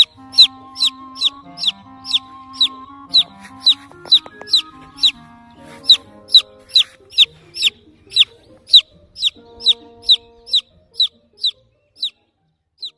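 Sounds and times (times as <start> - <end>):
baby chick peeping: 0.0 - 12.9.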